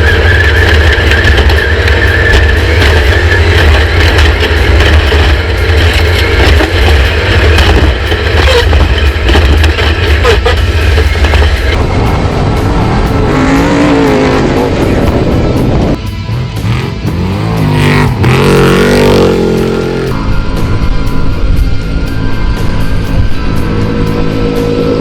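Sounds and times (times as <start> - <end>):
background music: 0.0 - 25.0
truck engine at speed: 0.0 - 25.0.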